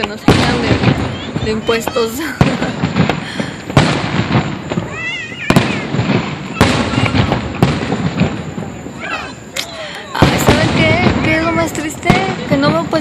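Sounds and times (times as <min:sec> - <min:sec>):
fireworks crackle: 0:00.0 - 0:13.0
fireworks shells bursting: 0:00.0 - 0:13.0.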